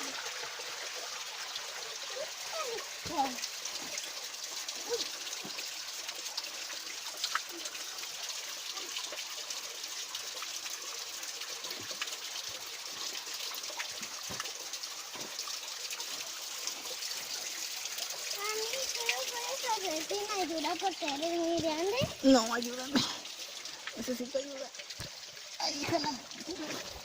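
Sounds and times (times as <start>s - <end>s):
stream water trickling: 0.0s - 27.0s.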